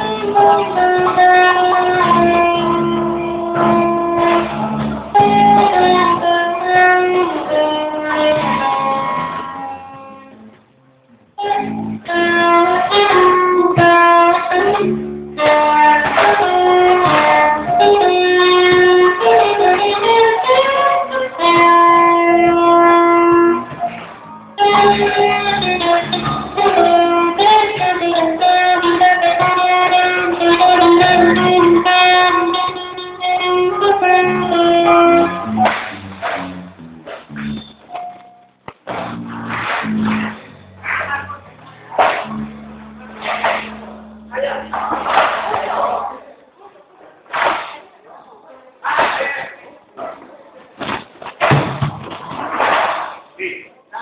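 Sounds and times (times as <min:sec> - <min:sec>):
band playing music: 0:00.0 - 0:10.6, 0:11.4 - 0:38.2, 0:38.9 - 0:45.6
melody of held notes: 0:00.0 - 0:44.8
guitar strumming: 0:00.0 - 0:46.2.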